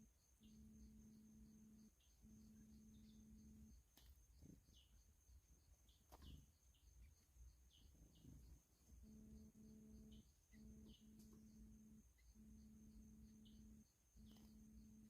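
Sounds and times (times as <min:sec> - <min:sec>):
faint bird chirps: 0:00.0 - 0:15.0
low steady hum: 0:00.0 - 0:15.0.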